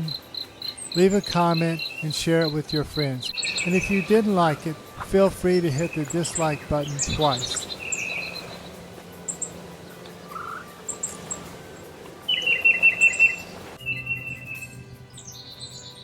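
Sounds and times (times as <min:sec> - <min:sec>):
bird trilling rapid notes: 0:00.0 - 0:16.0
songbirds chirping: 0:00.0 - 0:16.0.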